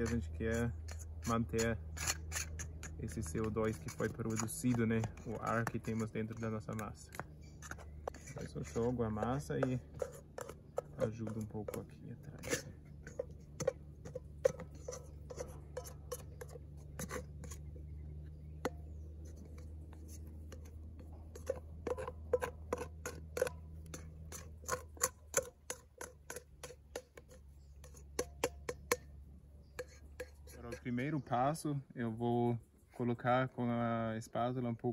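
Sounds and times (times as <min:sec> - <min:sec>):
plastic scraper scraping steel bowl: 0:00.0 - 0:17.8, 0:18.6 - 0:29.0, 0:29.7 - 0:31.0.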